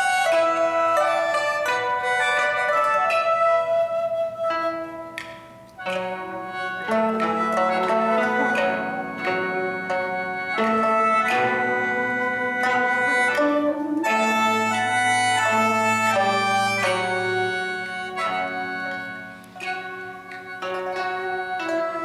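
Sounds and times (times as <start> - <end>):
plucked string notes: 0.0 - 22.0
wind pipe melody: 0.0 - 22.0.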